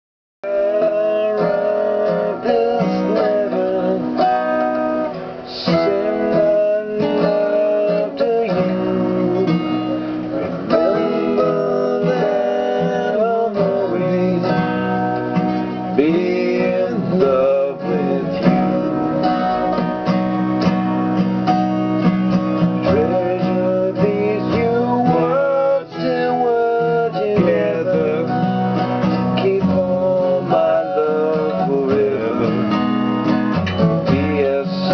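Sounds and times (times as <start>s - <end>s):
acoustic guitar strumming: 0.4s - 34.9s.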